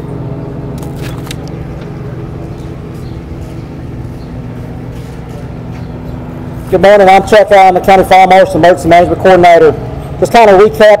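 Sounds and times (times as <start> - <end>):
engine idling hum: 0.0 - 10.8.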